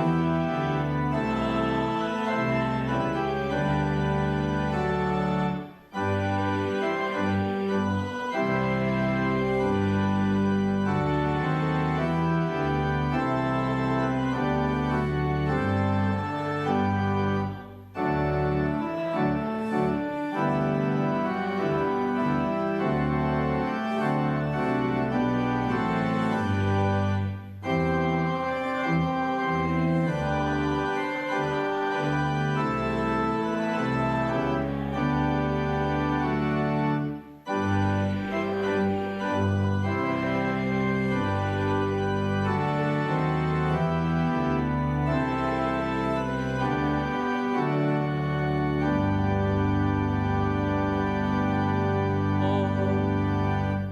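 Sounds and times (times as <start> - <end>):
organ playing a hymn: 0.0 - 53.9.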